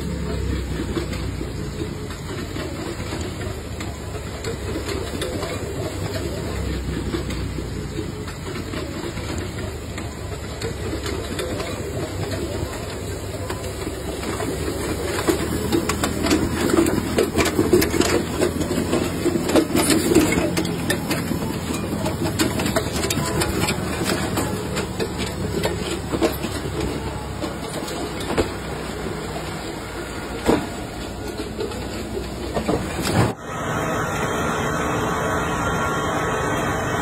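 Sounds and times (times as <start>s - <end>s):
harvesting machine clattering: 0.0s - 33.4s
sharp clicks and knocks: 0.1s - 33.4s.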